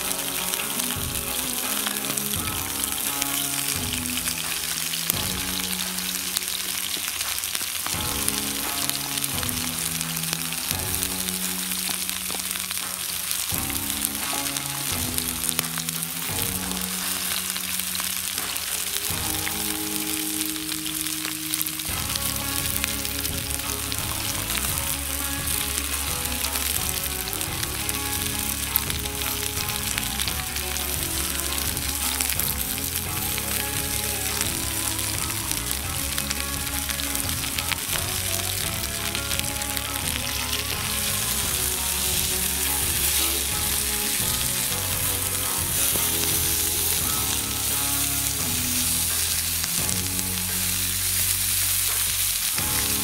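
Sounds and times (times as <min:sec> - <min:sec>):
background music with held notes: 0:00.0 - 0:53.0
meat sizzling over flame: 0:00.0 - 0:53.0.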